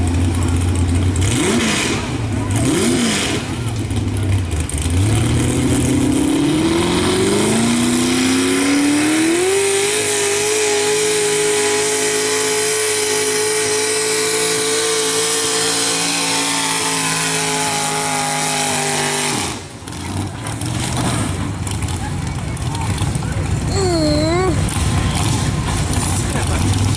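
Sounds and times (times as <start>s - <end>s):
truck engine at full throttle: 0.0s - 26.9s.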